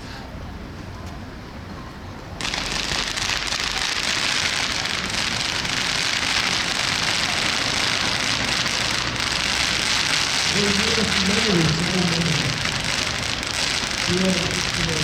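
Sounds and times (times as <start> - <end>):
firework battery crackling: 2.4 - 15.0.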